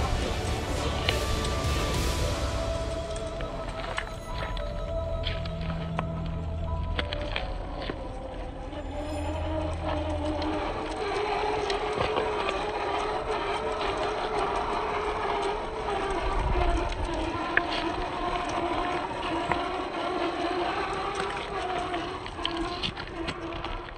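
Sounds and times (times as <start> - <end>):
toy car electric motor whining: 0.0 - 4.6, 7.5 - 23.9.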